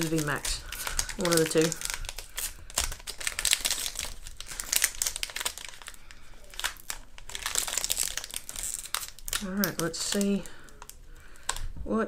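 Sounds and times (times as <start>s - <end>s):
foil wrapper crinkling: 0.0s - 11.7s.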